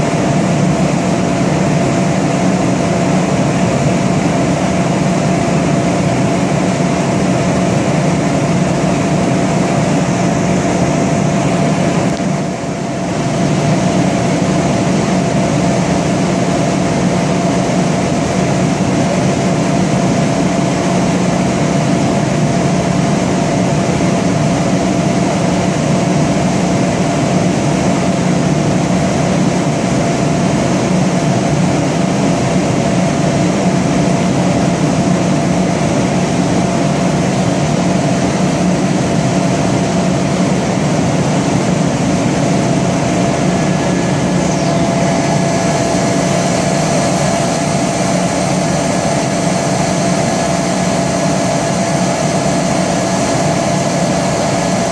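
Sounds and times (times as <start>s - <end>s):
air compressor running: 0.0s - 54.9s.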